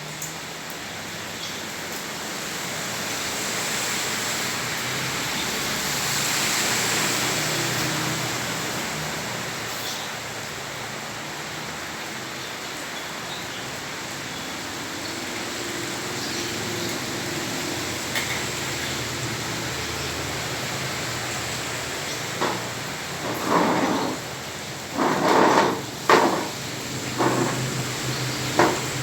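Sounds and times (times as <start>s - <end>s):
heavy rain on flooded street: 0.0s - 29.0s
rush of water: 0.0s - 29.0s.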